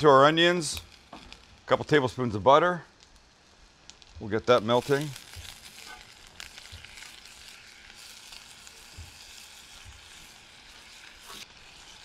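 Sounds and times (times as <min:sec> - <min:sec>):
butter sizzling in a saucepan: 0:00.0 - 0:12.0.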